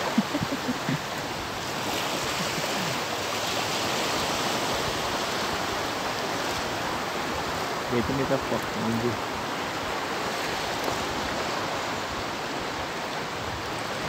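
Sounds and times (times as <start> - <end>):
choppy sea water: 0.0 - 14.0.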